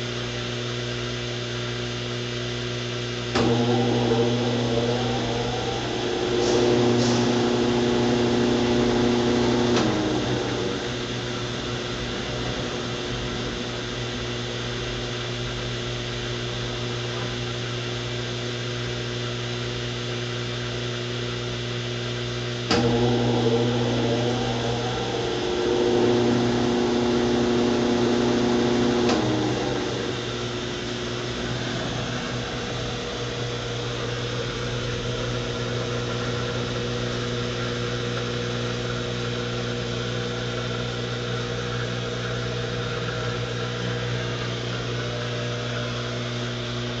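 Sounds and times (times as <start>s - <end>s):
washing machine spinning: 0.0s - 47.0s.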